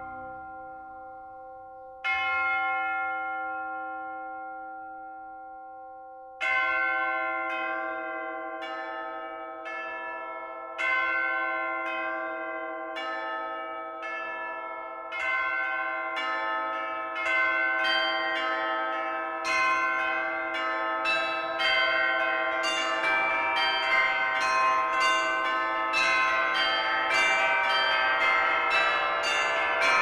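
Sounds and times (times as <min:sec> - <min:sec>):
church bells ringing: 0:00.0 - 0:05.7, 0:06.4 - 0:30.0.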